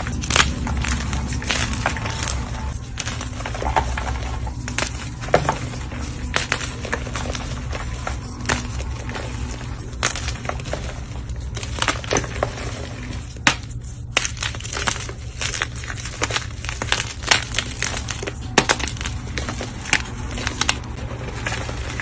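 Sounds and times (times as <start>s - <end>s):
chalk crunching: 0.0s - 22.0s
low hum: 0.0s - 22.0s.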